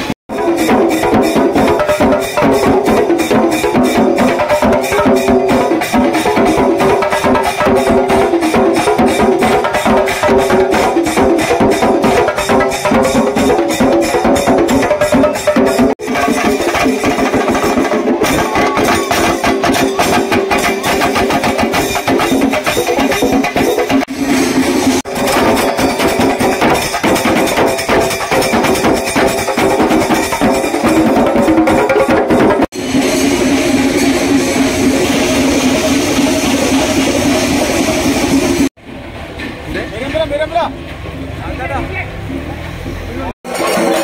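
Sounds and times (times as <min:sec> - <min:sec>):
drum ensemble beating fast: 0:00.0 - 0:38.8, 0:43.4 - 0:44.0.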